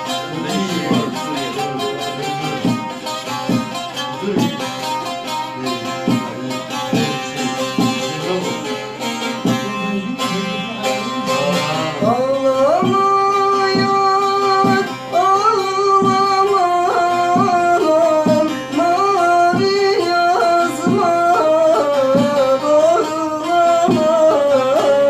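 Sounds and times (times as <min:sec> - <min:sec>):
plucked string instrument: 0:00.0 - 0:25.0.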